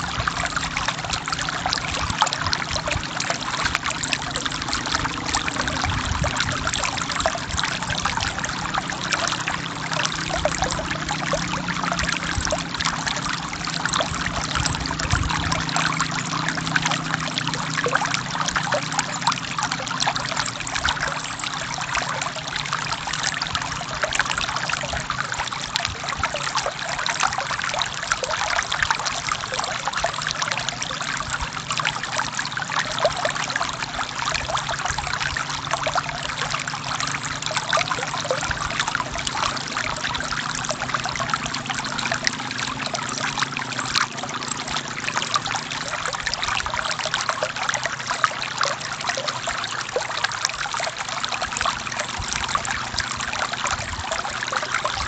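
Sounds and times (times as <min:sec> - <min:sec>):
stream water flowing over rocks: 0:00.0 - 0:55.0.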